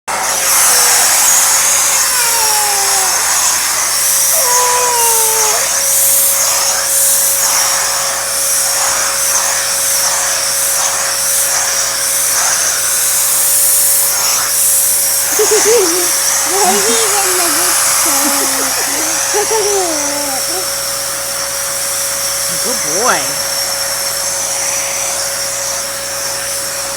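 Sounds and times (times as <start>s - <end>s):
vacuum cleaner running: 0.1s - 26.9s.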